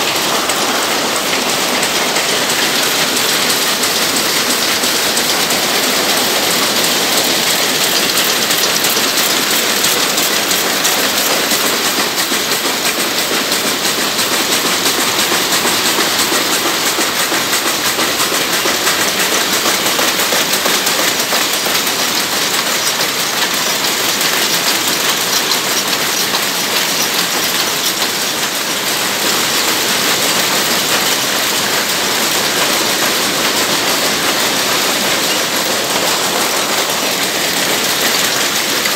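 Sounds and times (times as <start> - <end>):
looms clattering: 0.0 - 38.9.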